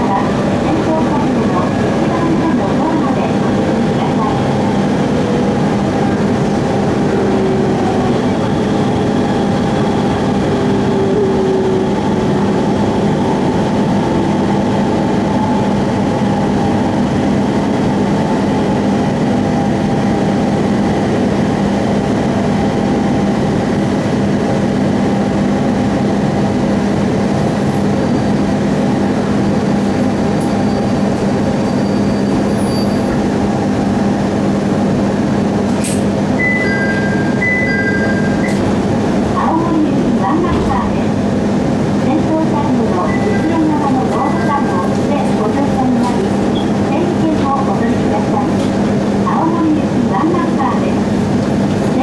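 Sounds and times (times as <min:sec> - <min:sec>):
train running noise: 0:00.0 - 0:52.0.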